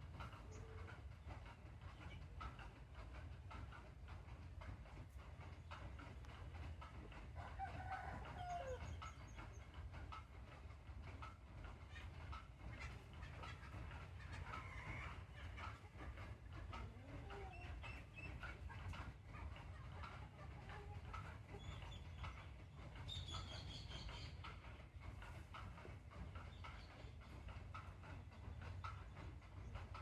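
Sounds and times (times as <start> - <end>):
bird clucking calls: 0.0 - 30.0.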